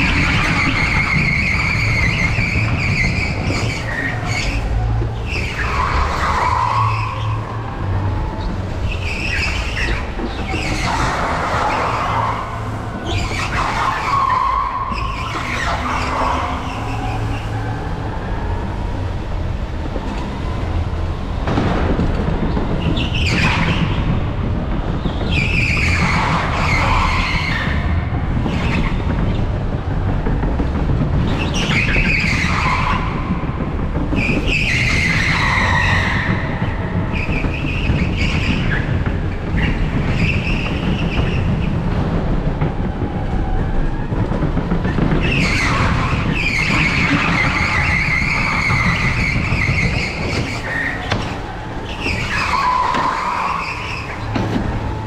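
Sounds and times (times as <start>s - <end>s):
tyres squealing: 0.0s - 19.6s, 25.0s - 30.5s, 31.2s - 55.0s
go-kart low rumble: 0.0s - 55.0s.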